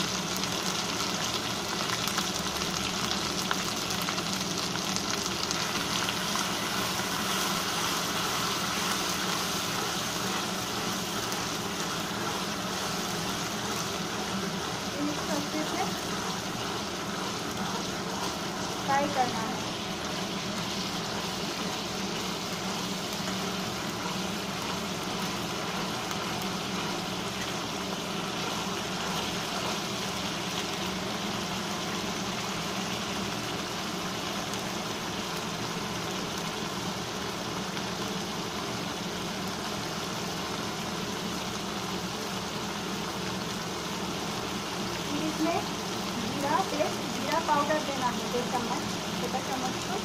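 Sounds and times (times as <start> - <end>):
paste sizzling and bubbling in oil: 0.0 - 50.0.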